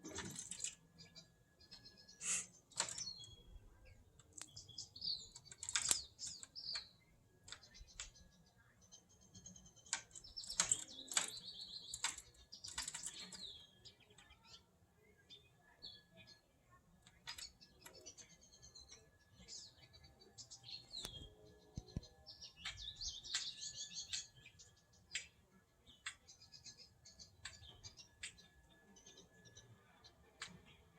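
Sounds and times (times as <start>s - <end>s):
small bird chirping: 0.0s - 30.9s.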